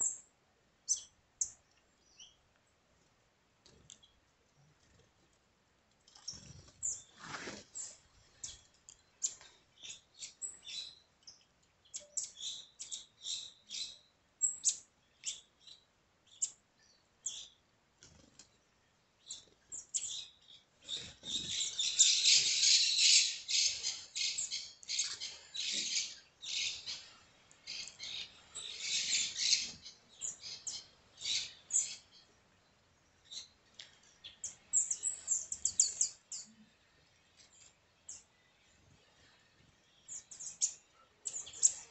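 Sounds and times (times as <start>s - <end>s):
birds chirping: 6.1s - 17.6s, 19.2s - 41.9s.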